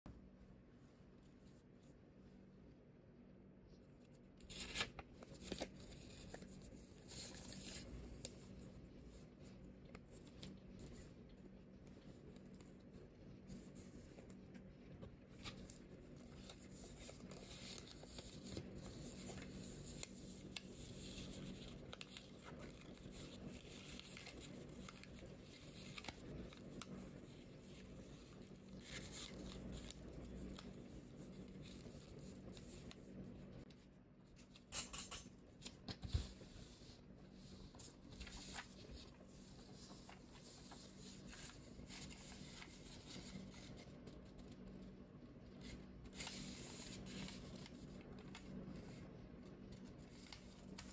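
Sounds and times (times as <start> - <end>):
faint steady hum: 0.1 - 50.9
paper rustling and folding: 3.7 - 50.9.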